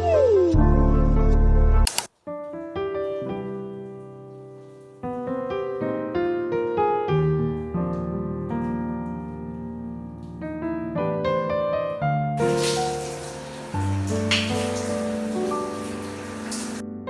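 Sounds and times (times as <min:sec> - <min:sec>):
slow solo piano melody: 0:02.7 - 0:17.0.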